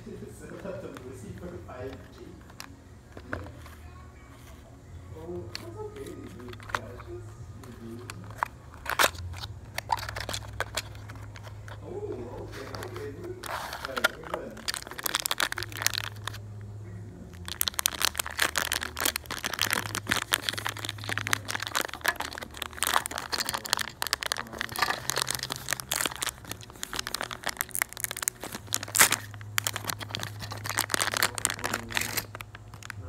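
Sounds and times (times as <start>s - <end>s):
plastic bag crinkling: 5.2s - 16.5s, 17.3s - 33.0s.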